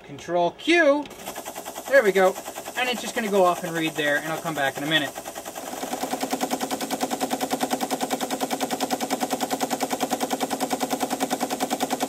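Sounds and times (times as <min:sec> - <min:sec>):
paper-tape reader clattering: 0:01.0 - 0:12.0.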